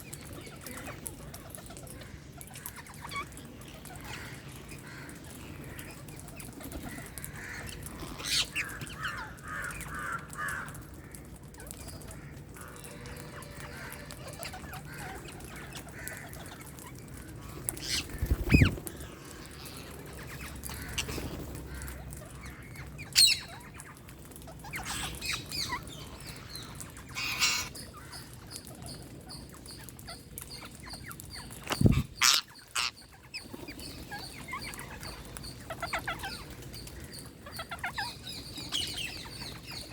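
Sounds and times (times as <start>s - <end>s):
parrots squawking and chirping: 0.2s - 10.8s, 11.5s - 39.9s.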